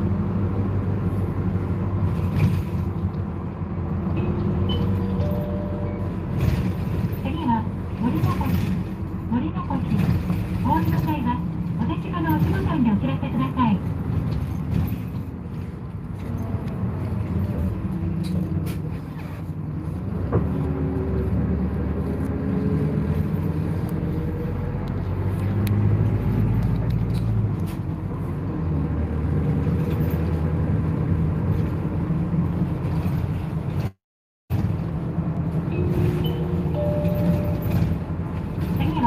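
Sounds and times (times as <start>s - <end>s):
bus engine: 0.0s - 39.0s
road noise: 0.0s - 39.0s.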